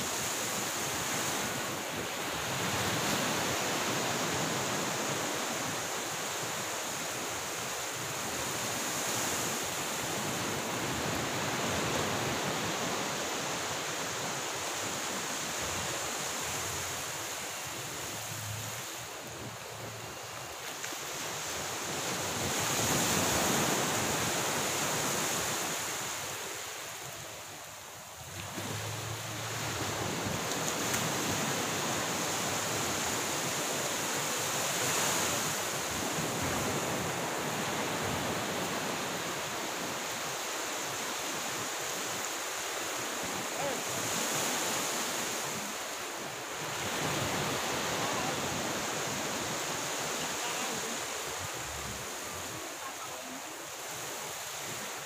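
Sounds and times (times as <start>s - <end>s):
waves washing onto shore: 0.0s - 55.0s.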